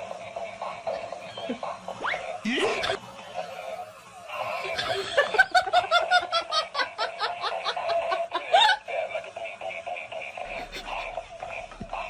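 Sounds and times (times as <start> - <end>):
high-pitched laugh: 1.0 - 11.8.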